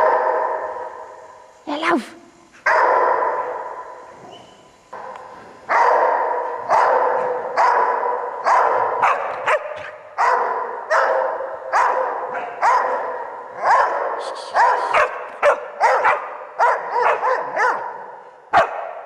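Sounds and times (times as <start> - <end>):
dogs barking: 0.0 - 1.1, 2.6 - 4.1, 5.0 - 19.0.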